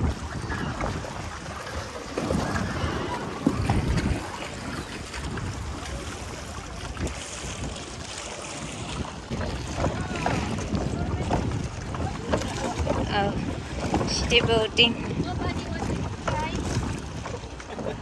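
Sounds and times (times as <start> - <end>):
sea water washing around boat: 0.0 - 18.0
wind buffeting microphone: 0.0 - 18.0.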